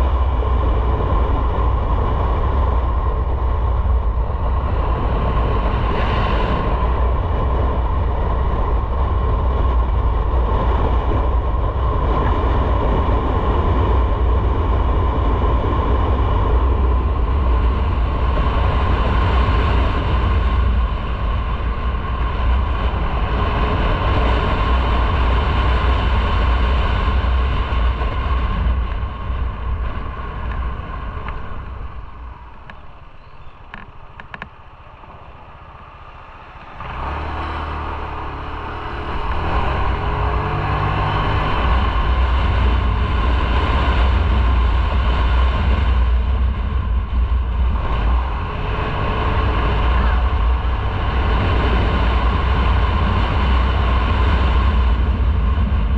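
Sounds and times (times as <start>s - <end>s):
motorcycle engine: 0.0s - 55.9s
road noise: 0.0s - 55.9s
wind rushing over microphone: 0.0s - 55.9s.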